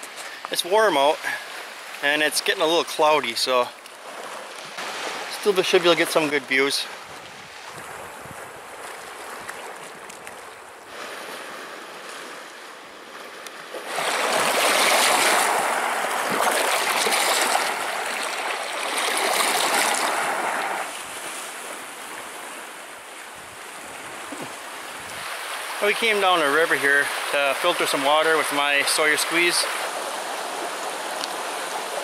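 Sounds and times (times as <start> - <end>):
waves splashing over rock: 0.0 - 32.0.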